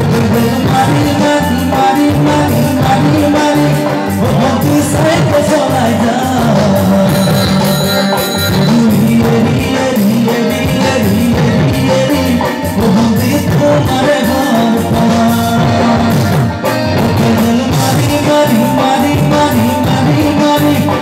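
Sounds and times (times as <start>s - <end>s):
amplified band with guitar: 0.0s - 21.0s
man singing into a microphone: 0.0s - 21.0s.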